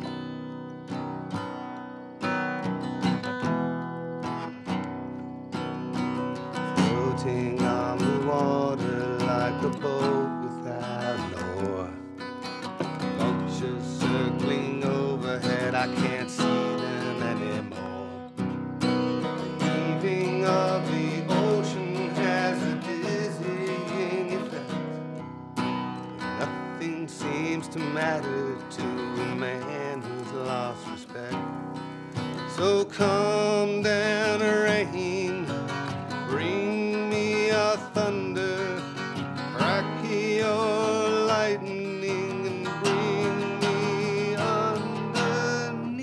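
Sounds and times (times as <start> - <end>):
acoustic guitar strumming: 0.0 - 46.0
man singing: 6.4 - 25.0, 26.2 - 31.6, 32.3 - 46.0.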